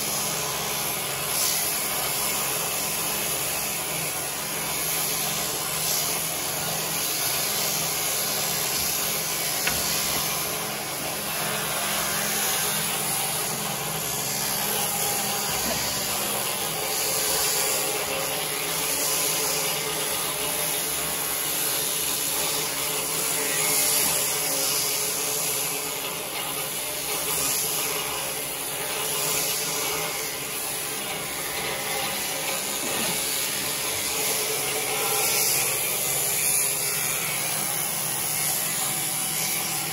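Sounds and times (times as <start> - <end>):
electric shears buzzing: 0.0 - 39.9.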